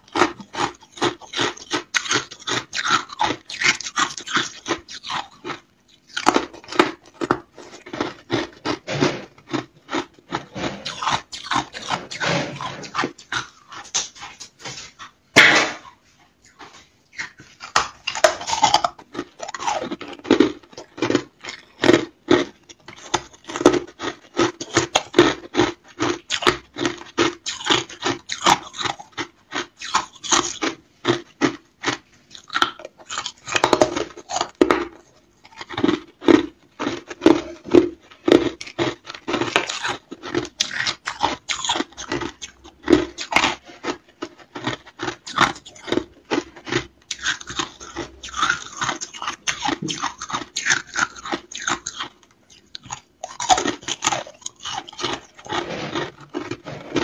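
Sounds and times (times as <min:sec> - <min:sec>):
person crunching ice: 0:00.0 - 0:15.8, 0:17.2 - 0:57.0.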